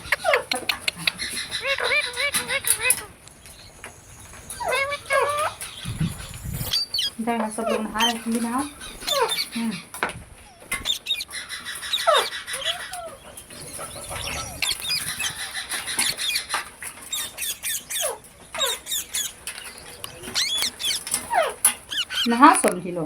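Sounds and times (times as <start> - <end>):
parrots calling: 0.0 - 22.8
wings fluttering and rustling: 0.0 - 23.0.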